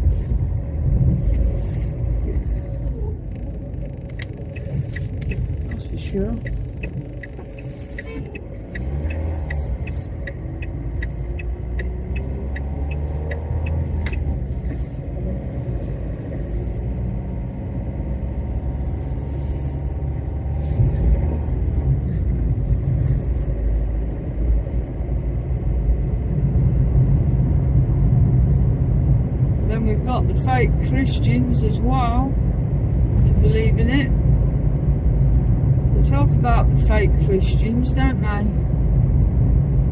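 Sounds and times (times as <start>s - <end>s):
car engine and road rumble: 0.0s - 39.9s
turn signal ticking: 0.0s - 39.9s.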